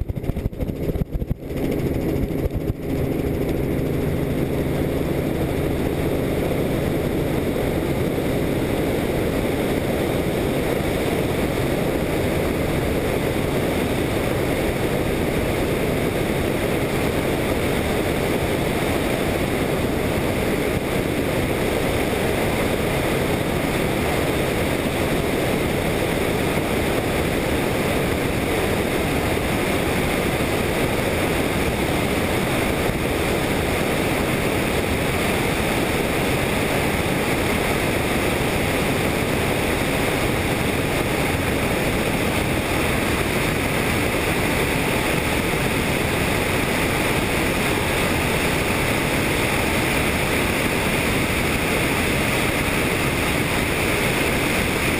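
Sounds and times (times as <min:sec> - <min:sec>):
helicopter engine and rotors: 0:00.0 - 0:54.9.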